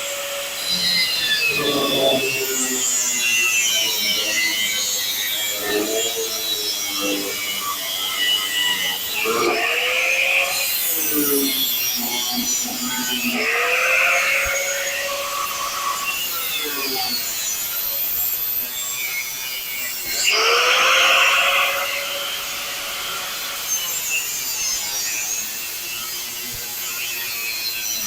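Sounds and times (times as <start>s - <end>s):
power cutting tool cutting sheet metal: 0.0s - 28.0s.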